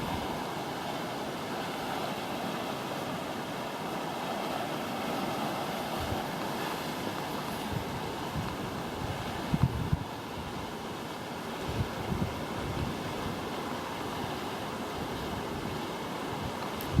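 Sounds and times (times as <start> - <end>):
ocean surf rushing: 0.0 - 17.0
wind: 0.0 - 17.0.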